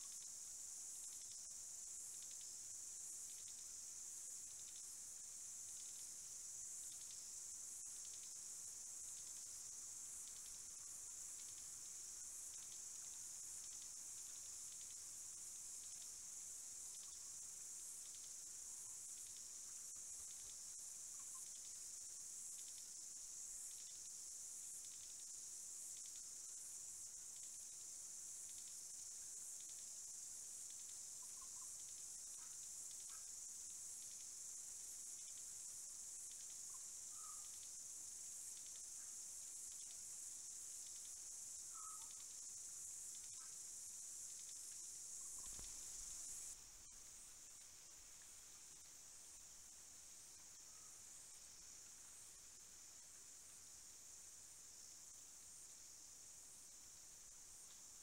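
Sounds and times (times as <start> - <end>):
high-pitched insect chorus: 0.0 - 58.0
faint chirps: 1.0 - 26.6, 27.2 - 53.1.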